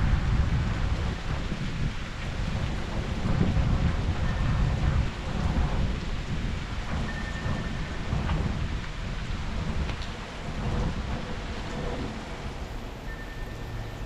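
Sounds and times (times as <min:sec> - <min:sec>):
heavy rain: 0:00.0 - 0:14.0
wind buffeting microphone: 0:00.0 - 0:14.0.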